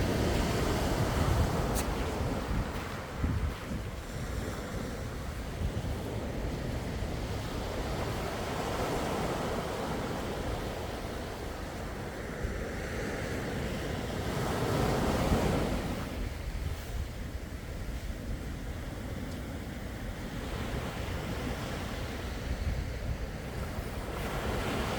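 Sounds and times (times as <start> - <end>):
sea waves washing onto shore: 0.0 - 24.9
wind rumble on microphone: 0.0 - 24.9.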